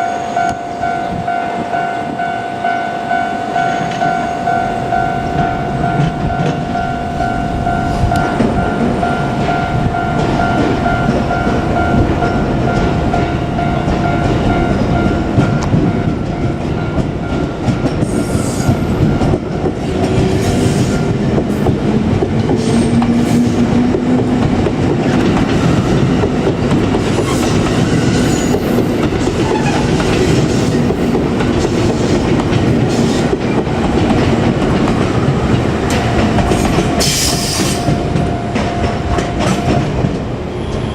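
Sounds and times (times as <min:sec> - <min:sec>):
level-crossing warning bell: 0:00.0 - 0:40.9
train wheels clickety-clack: 0:05.4 - 0:40.9.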